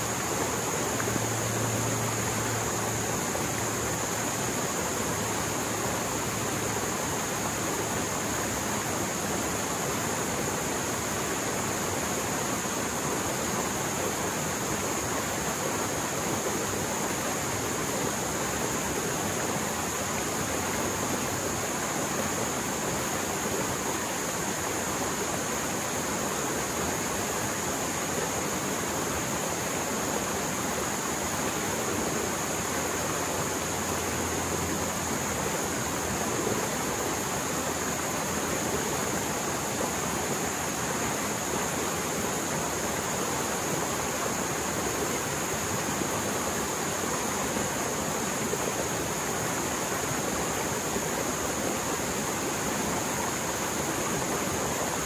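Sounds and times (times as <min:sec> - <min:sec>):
stream water roaring: 0:00.0 - 0:55.0.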